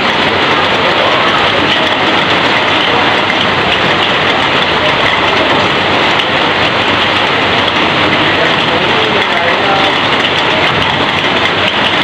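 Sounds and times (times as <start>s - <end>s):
heavy rain on metal roof: 0.0s - 12.0s.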